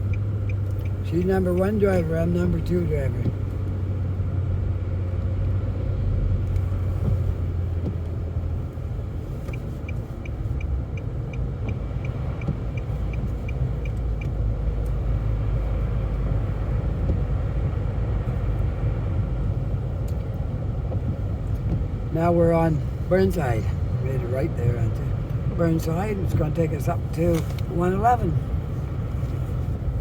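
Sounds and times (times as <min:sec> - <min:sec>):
turn signal ticking: 0:00.0 - 0:05.6, 0:06.3 - 0:30.0
car road noise rumble: 0:00.0 - 0:30.0.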